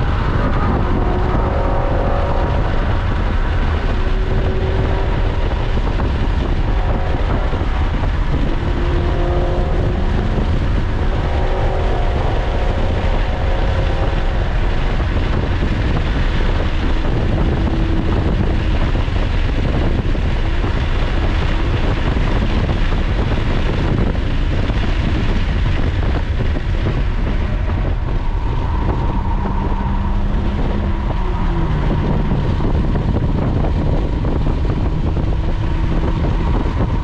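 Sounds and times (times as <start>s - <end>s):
car engine decelerating: 0.0s - 37.0s
road noise: 0.0s - 37.0s
wind noise in car cabin: 0.0s - 37.0s.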